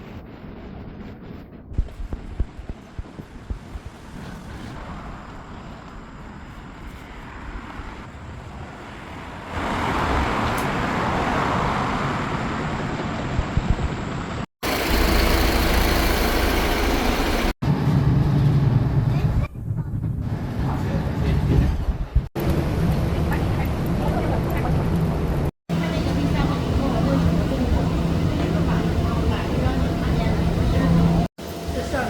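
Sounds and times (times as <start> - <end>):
road traffic rumble: 2.1 - 19.4, 22.4 - 32.0
bus engine hum: 2.8 - 19.2, 20.4 - 32.0.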